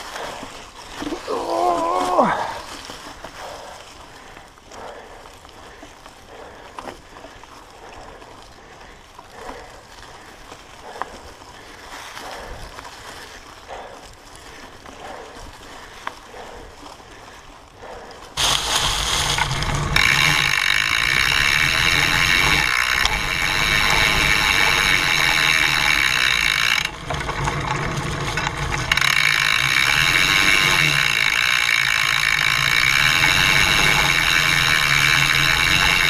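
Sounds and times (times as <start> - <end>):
bike chain clattering and ratcheting: 0.0 - 36.0
bike tyres crunching through leaves: 0.0 - 36.0
sharp clicks from bike: 2.7 - 36.0.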